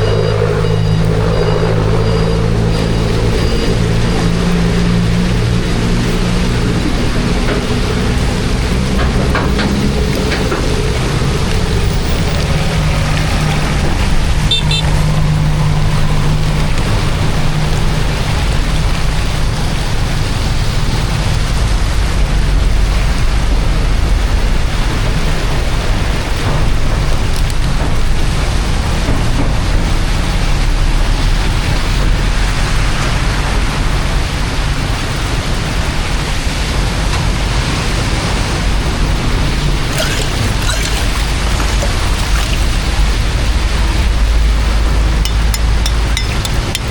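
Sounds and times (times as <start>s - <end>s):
rushing water: 0.0s - 46.9s.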